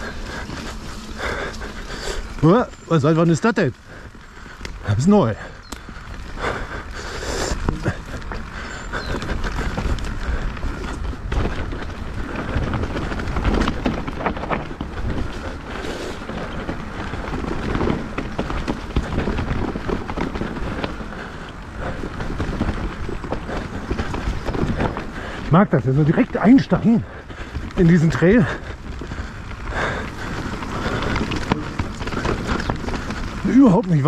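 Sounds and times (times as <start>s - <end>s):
bike frame and chain rattling: 0.0s - 34.0s
bike tyres on dirt: 0.0s - 34.0s
wind buffeting microphone: 0.0s - 34.0s.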